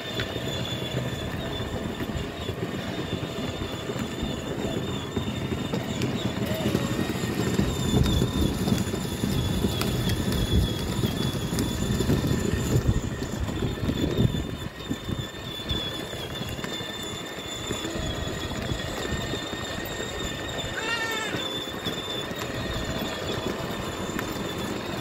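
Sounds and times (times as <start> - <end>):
electric drive whine: 0.0 - 25.0
plastic wheels rumbling on pavers: 0.0 - 25.0.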